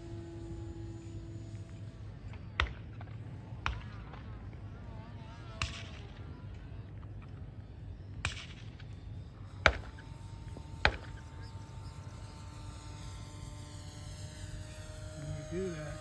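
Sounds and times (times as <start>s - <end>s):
faint steady whine: 0.0s - 16.0s
low steady hum: 0.0s - 16.0s.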